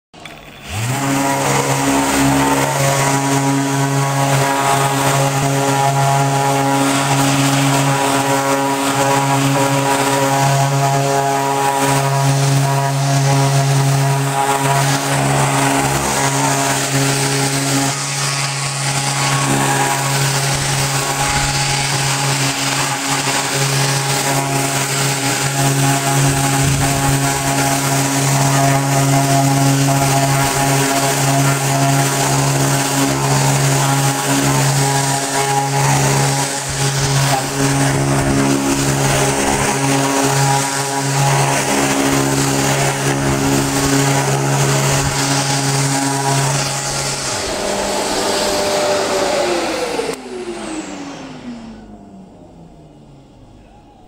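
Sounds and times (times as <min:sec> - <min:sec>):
orbital sander running: 0:00.2 - 0:52.9.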